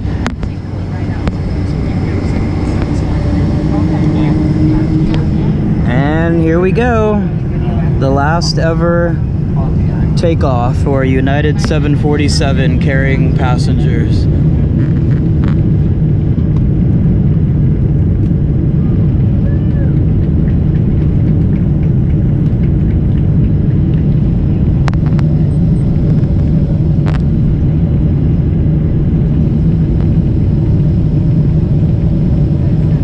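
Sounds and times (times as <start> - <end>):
jet engines rumbling: 0.0 - 33.0
wheels rumbling on runway: 0.0 - 33.0.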